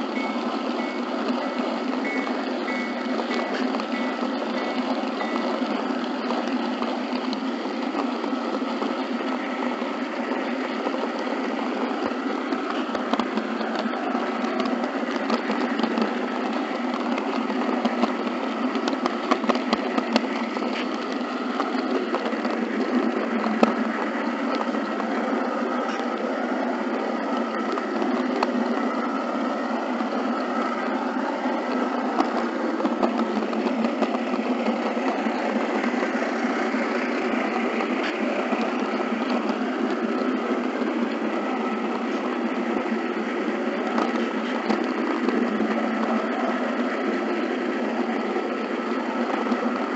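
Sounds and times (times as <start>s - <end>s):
model train rattly whir: 0.0s - 49.9s.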